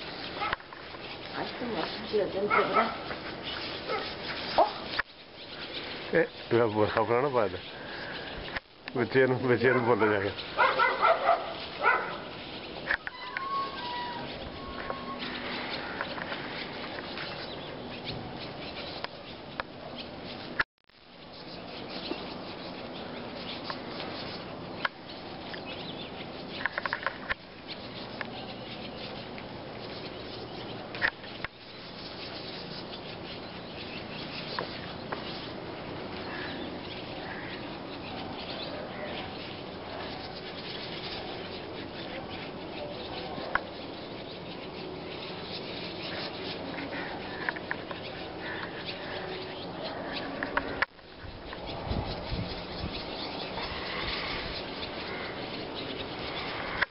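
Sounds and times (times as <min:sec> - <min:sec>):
flock of birds chattering: 0:00.0 - 0:56.9
swallows twittering: 0:00.0 - 0:56.9.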